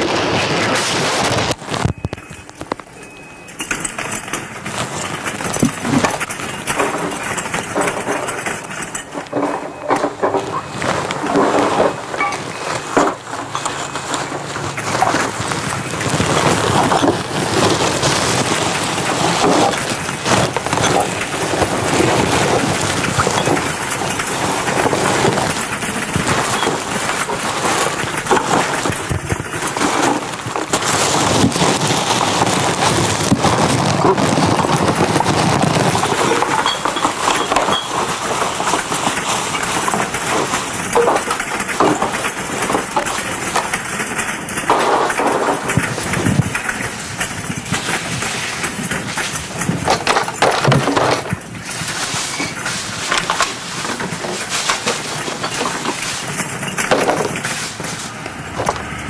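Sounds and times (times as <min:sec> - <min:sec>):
packaging crumpling and rustling: 0:00.0 - 0:02.9, 0:03.8 - 0:59.0.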